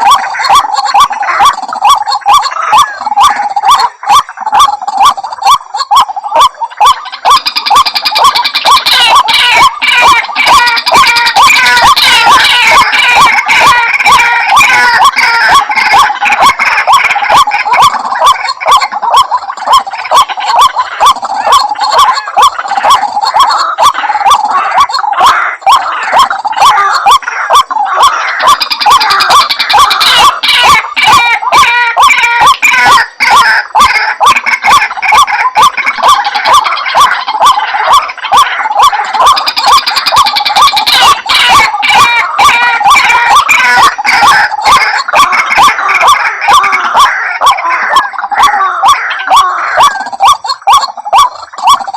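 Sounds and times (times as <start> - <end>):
waterhen croaking calls: 0.0 - 51.9.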